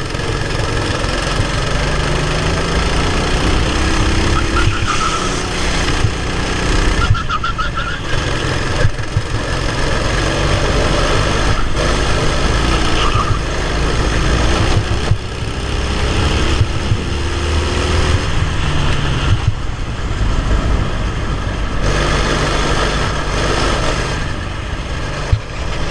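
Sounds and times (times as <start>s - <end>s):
kart engine revving: 0.0s - 25.9s.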